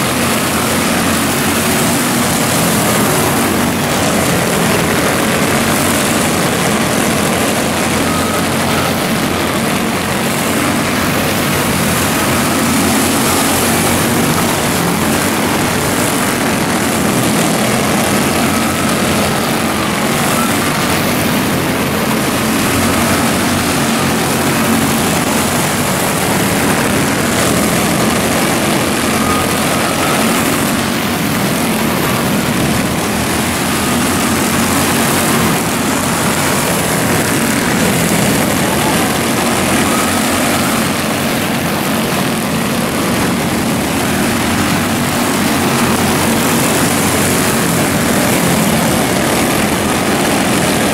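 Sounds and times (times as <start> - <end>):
small race car engines droning: 0.0 - 50.9.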